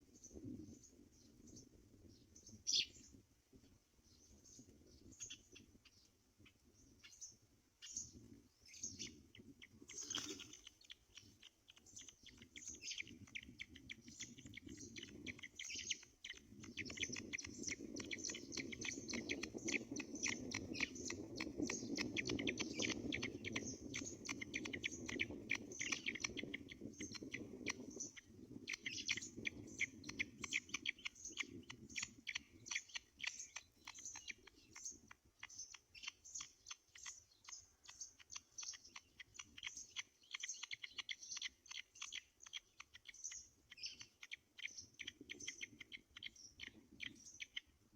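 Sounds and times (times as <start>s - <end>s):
birds chittering at a nest: 4.2s - 47.9s.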